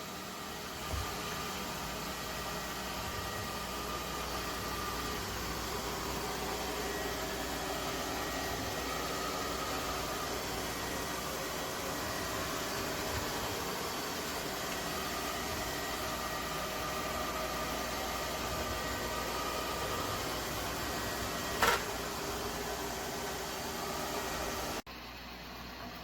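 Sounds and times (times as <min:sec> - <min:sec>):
robot vacuum running: 0:00.0 - 0:24.8.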